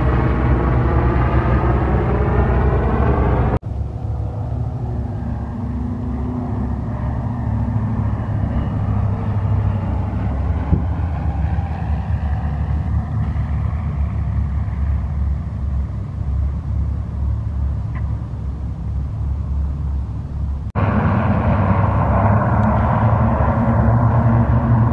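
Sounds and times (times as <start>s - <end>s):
low rumble: 0.0s - 24.9s
propeller plane engines: 0.0s - 24.9s.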